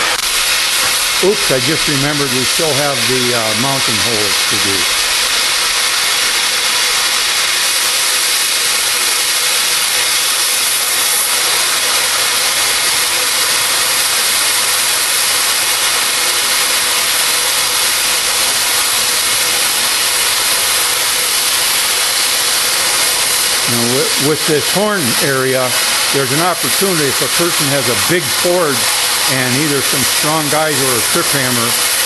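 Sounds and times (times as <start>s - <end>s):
cutting torch hissing: 0.0s - 32.0s.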